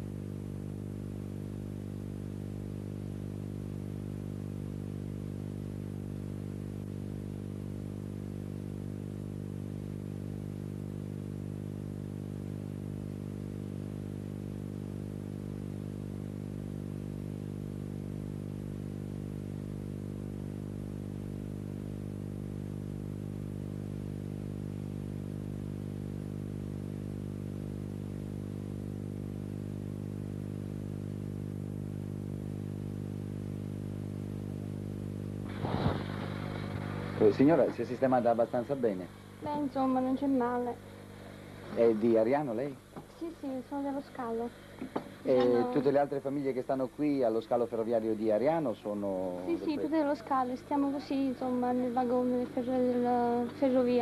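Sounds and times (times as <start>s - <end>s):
faint hiss: 0.0s - 54.0s
steady low hum: 0.0s - 54.0s.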